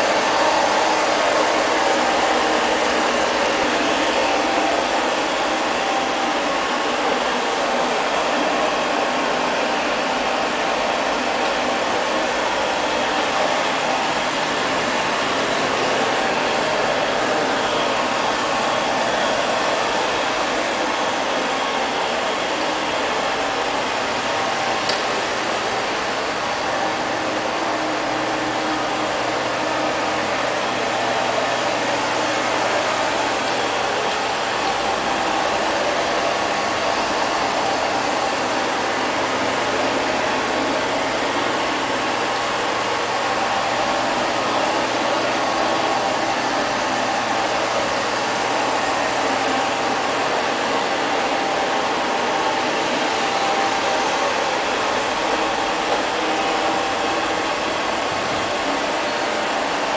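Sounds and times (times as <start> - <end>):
robot vacuum cleaner whirring: 0.0 - 59.9.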